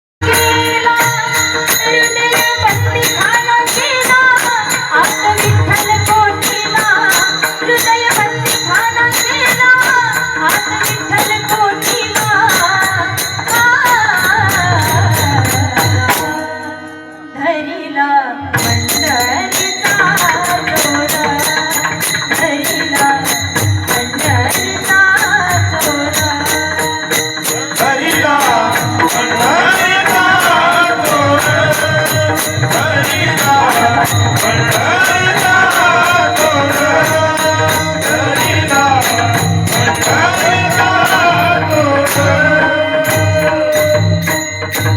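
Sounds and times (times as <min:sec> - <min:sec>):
hand cymbals striking: 0:00.2 - 0:17.0, 0:18.6 - 0:44.9
person singing devotional song: 0:00.2 - 0:44.9.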